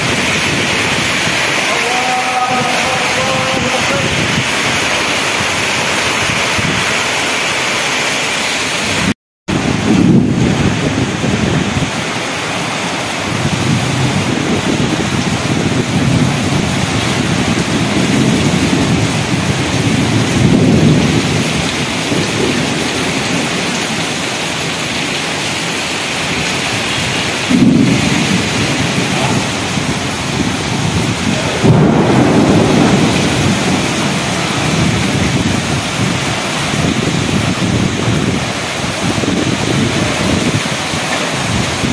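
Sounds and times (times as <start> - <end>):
low rumbling wind: 0.0 - 7.9, 8.5 - 41.9
heavy rain downpour: 0.0 - 41.9.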